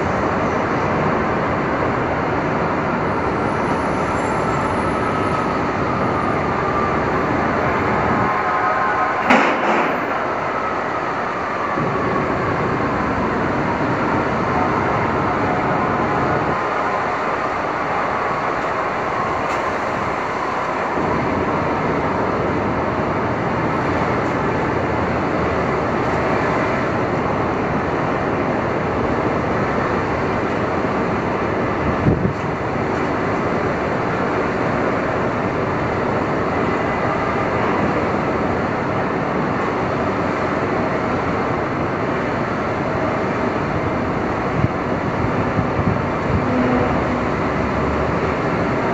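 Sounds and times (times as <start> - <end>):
city traffic noise: 0.0 - 48.9.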